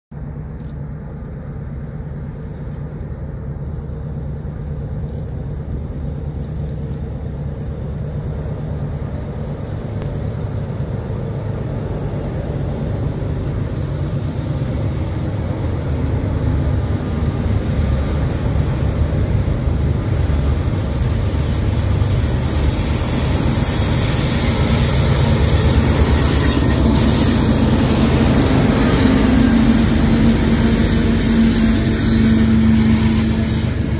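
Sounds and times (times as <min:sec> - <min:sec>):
diesel locomotives rumbling: 0:00.1 - 0:33.9
train wheels hissing: 0:02.0 - 0:33.9.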